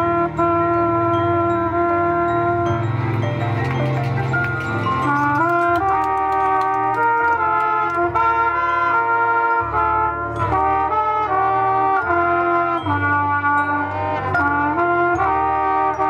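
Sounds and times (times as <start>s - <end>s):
brass band chords: 0.0s - 16.0s
low bass notes: 0.0s - 16.0s.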